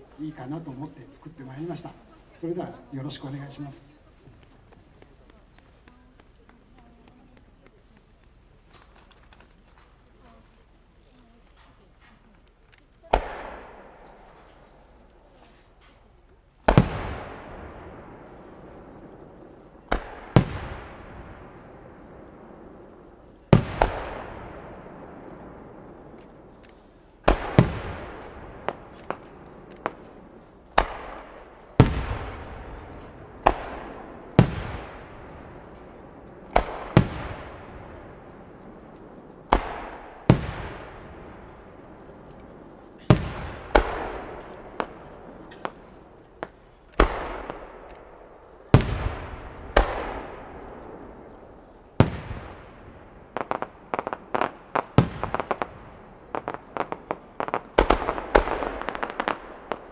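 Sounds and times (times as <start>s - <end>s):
firework shells bursting: 0.0s - 10.4s, 11.5s - 59.9s
small bangs and pops: 3.0s - 59.9s.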